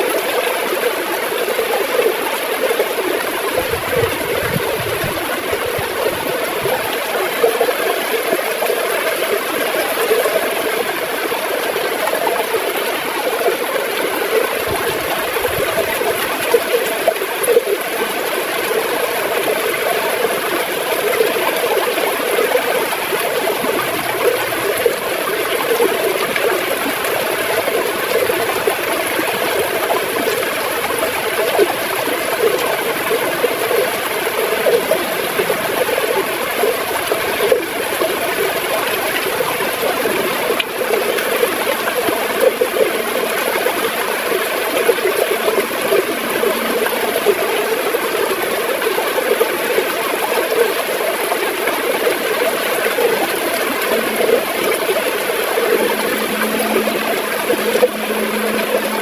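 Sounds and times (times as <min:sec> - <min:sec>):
river water gurgling: 0:00.0 - 0:59.0.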